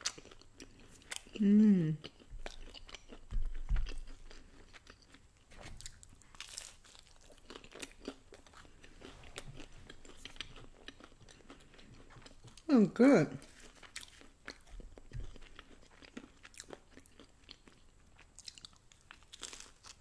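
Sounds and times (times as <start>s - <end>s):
crunchy chewing: 0.0s - 1.4s, 2.0s - 12.7s, 13.4s - 20.0s.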